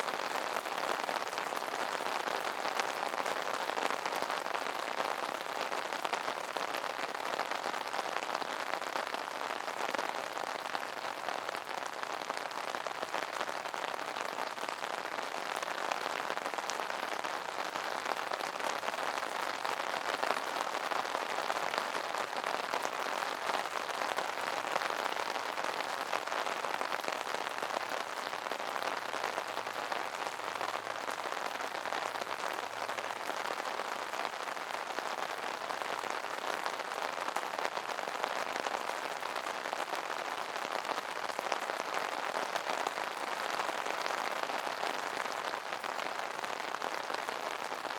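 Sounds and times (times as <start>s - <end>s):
rain pattering on an umbrella: 0.0s - 47.9s.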